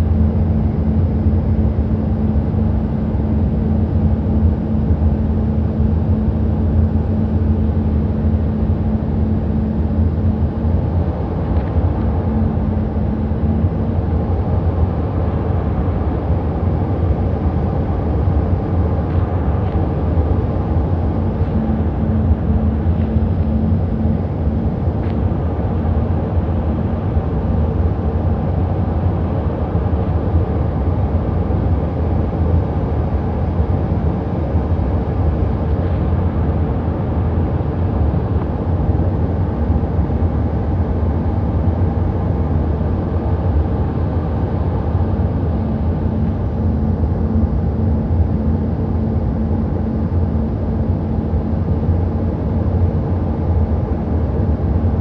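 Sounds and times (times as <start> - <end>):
jet engine drone: 0.0 - 55.0
low steady hum: 0.0 - 55.0.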